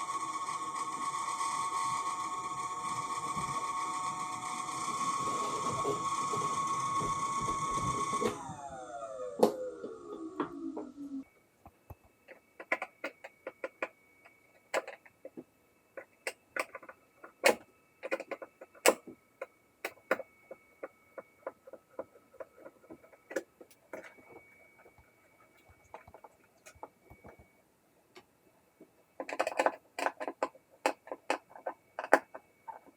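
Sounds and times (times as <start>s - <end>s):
faint high whine: 0.0s - 32.9s.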